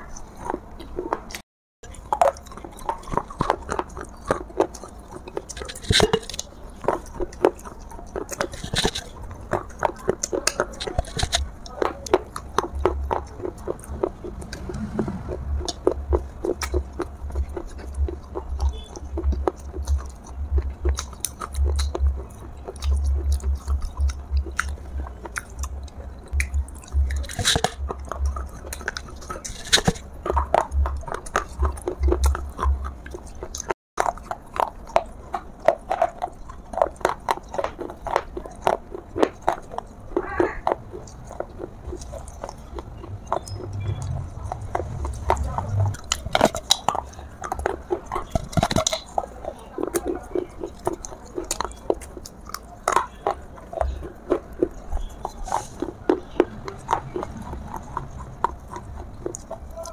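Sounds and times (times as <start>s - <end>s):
crunchy chewing of clay: 0.0s - 59.9s.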